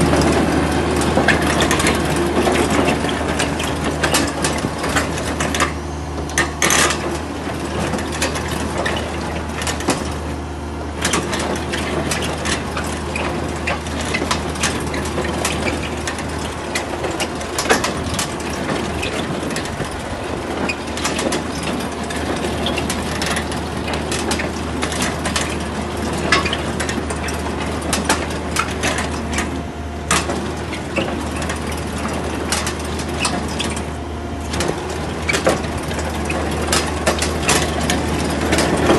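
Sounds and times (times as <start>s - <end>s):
piling rig engine hum: 0.0s - 38.9s.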